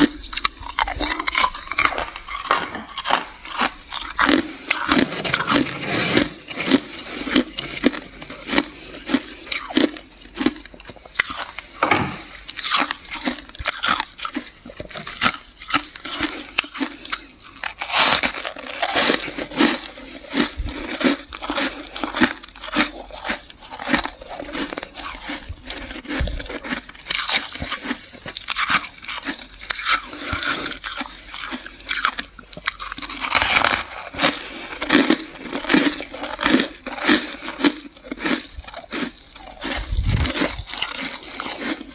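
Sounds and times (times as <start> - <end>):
frost being crunched by chewing: 0.0 - 11.8, 12.4 - 41.9.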